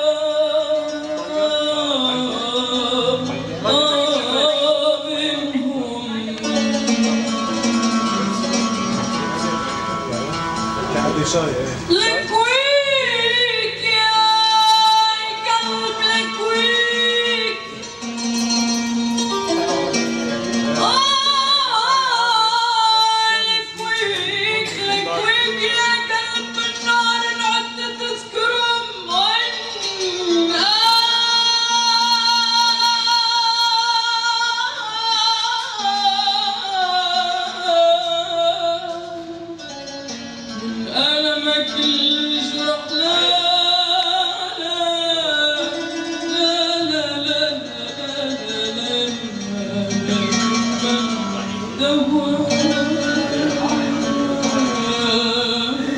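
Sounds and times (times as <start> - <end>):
woman singing into a microphone: 0.0 - 9.5, 11.9 - 55.9.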